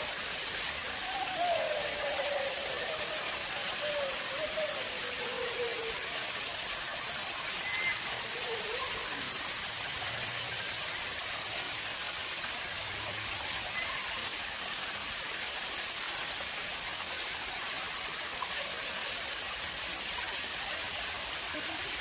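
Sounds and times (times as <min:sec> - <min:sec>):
water splashing into pond: 0:00.0 - 0:22.0.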